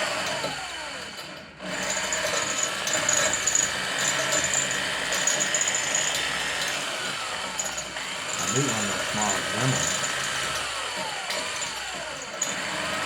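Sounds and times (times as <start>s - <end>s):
power tool whining on steel pipe: 0.0s - 13.0s.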